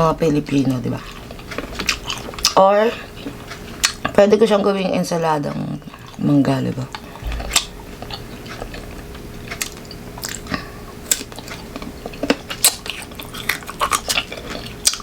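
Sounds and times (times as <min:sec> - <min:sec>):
crunching and chewing raw mango: 0:00.4 - 0:15.0.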